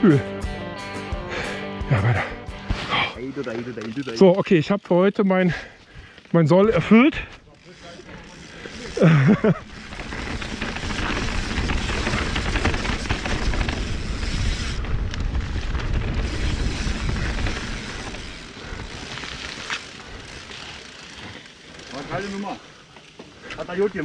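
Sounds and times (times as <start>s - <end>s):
bike rattling over bumps: 3.2s - 24.0s
bike tyres rolling on dirt: 3.2s - 24.0s.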